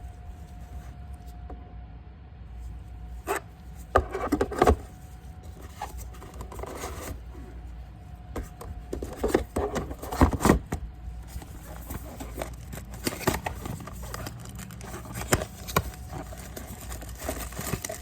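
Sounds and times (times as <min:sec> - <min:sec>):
steady low hum: 0:00.0 - 0:18.0
packaging rubbing and scraping: 0:03.2 - 0:18.0.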